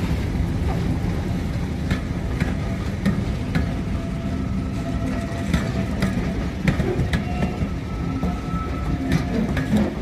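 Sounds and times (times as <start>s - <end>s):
sharp clicks of train wheels: 0.0s - 4.0s, 5.0s - 10.0s
train rumbling on track: 0.0s - 10.0s.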